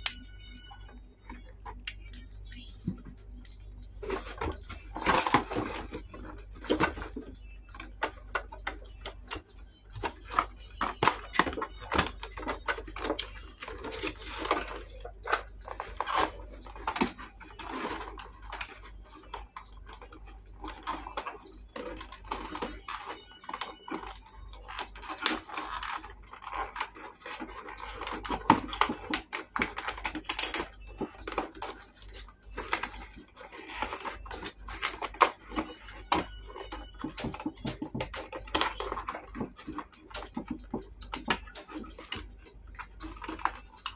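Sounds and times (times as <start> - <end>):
packaging being handled: 0.8 - 43.9.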